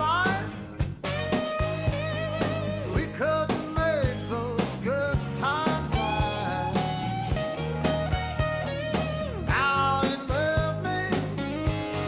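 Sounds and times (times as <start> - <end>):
bass: 0.0 - 12.0
electric guitar lead with bent notes: 0.0 - 12.0
steady drum beat: 0.0 - 12.0.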